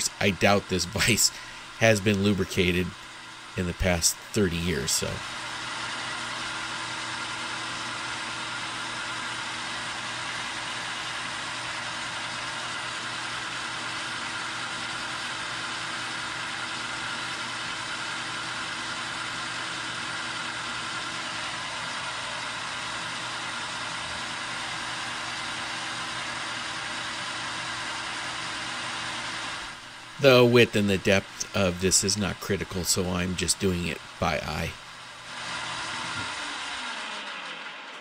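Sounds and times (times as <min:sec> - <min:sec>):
metal lathe running: 0:00.0 - 0:38.0.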